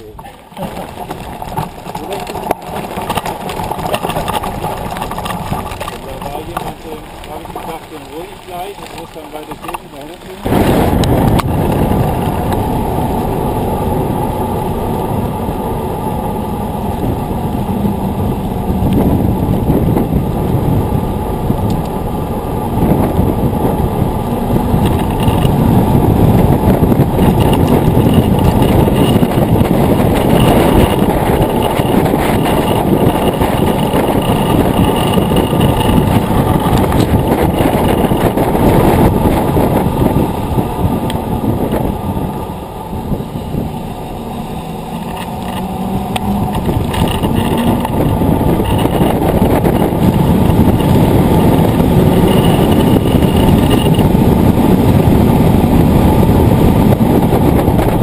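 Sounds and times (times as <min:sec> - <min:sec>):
knobby tyre roar on asphalt: 0:00.0 - 0:58.0
wind buffeting microphone: 0:00.0 - 0:58.0.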